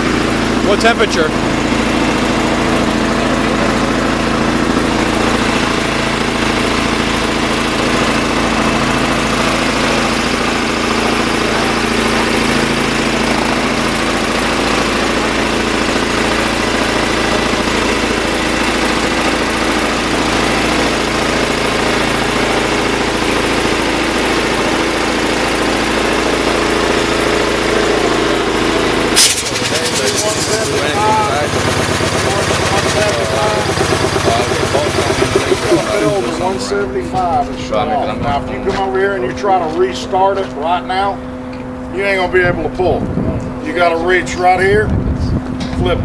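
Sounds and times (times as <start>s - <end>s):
gas engine driving air compressor: 0.0s - 37.8s.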